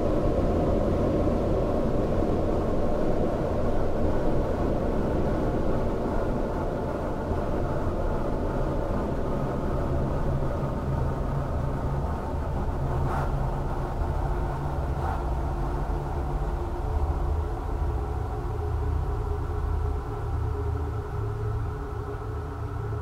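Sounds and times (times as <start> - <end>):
low rumbling drone: 0.0 - 23.0.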